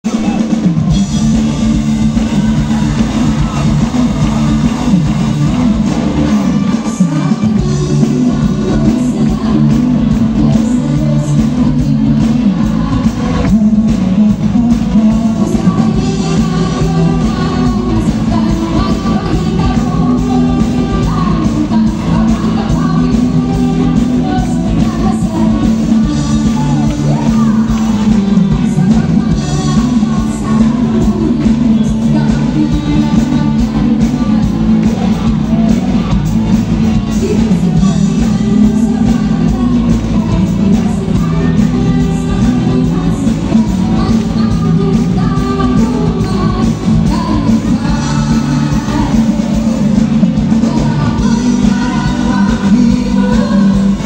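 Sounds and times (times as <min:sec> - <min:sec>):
person singing: 0:00.0 - 0:54.0
rock band playing through loudspeakers: 0:00.0 - 0:54.0
strong bass line: 0:00.0 - 0:54.0.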